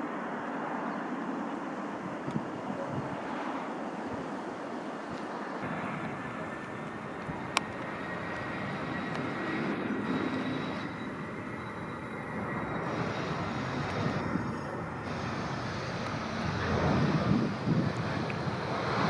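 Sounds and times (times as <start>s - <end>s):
jet airliner engines running: 0.0s - 19.0s.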